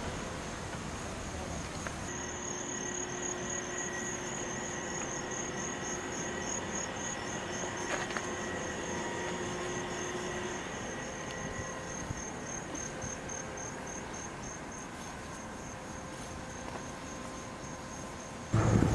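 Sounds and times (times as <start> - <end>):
insects chirping: 0.0 - 18.6
outdoor background noise: 0.0 - 18.9.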